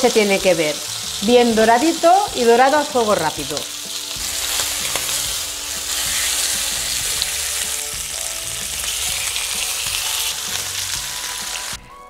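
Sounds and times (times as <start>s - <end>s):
meat sizzling in a frying pan: 0.0s - 11.9s.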